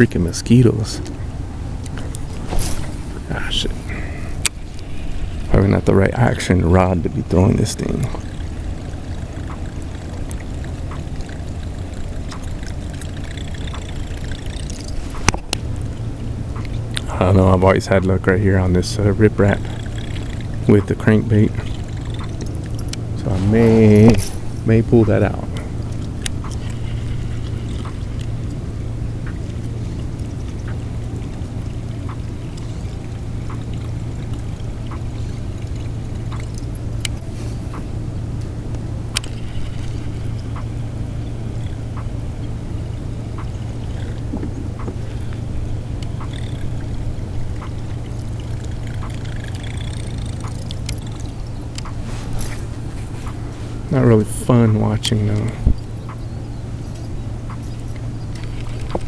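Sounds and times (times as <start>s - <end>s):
steady low hum: 0.0s - 59.0s
water and wind rumble: 0.0s - 59.0s
faint ticks: 7.0s - 54.4s, 55.0s - 59.0s.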